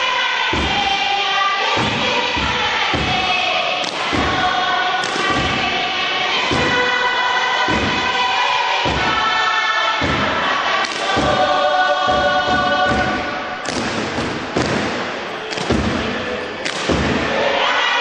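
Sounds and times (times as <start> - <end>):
group singing chant in harmony: 0.0 - 18.0.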